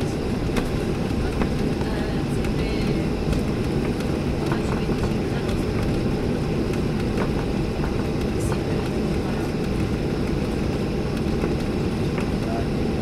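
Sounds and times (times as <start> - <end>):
airplane cabin rumble while taxiing: 0.0 - 13.0.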